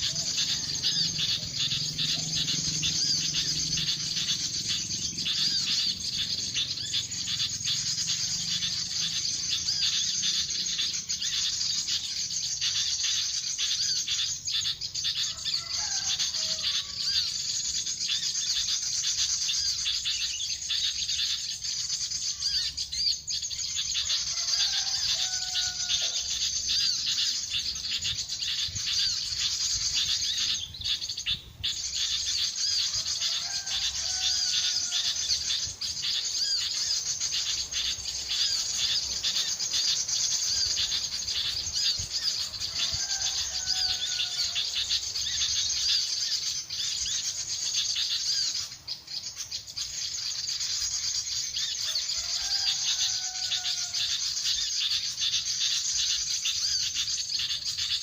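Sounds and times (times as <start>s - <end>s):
birds chirping: 0.0s - 58.0s
falling whistled call: 0.0s - 58.0s.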